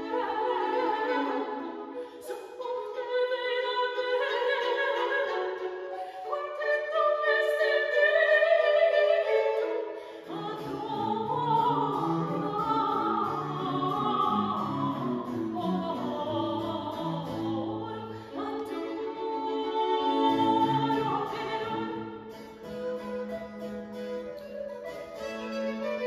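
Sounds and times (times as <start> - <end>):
soprano singing: 0.0 - 26.0
violins harpsichord and viola da gamba: 0.0 - 26.0.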